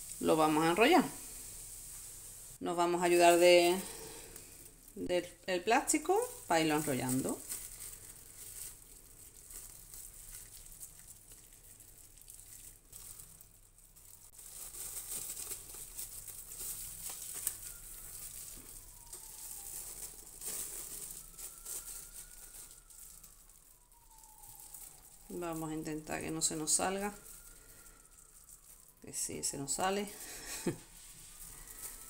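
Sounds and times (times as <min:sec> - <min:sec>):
cling film crinkling: 0:00.0 - 0:32.0.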